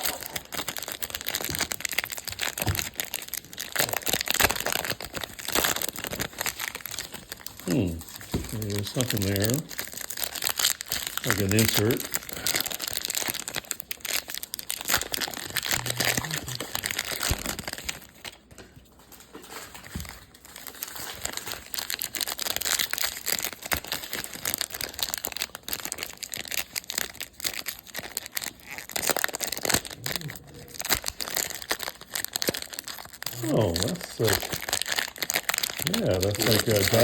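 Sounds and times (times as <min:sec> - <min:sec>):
card pack wrappers crinkling: 0:00.0 - 0:37.0.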